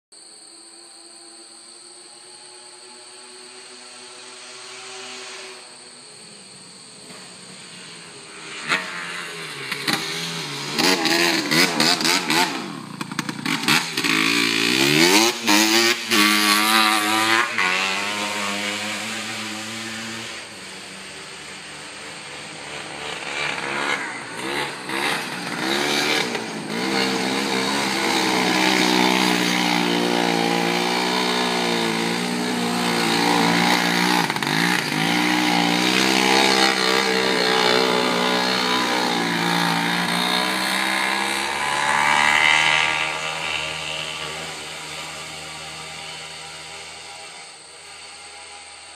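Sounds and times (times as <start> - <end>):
buggy engine revving: 7.0 - 48.9.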